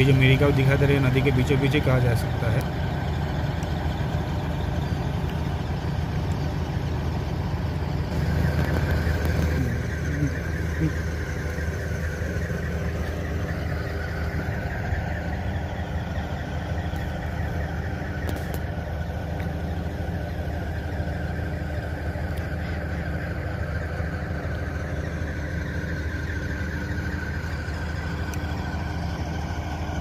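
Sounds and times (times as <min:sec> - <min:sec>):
engine humming steadily: 0:00.0 - 0:30.0.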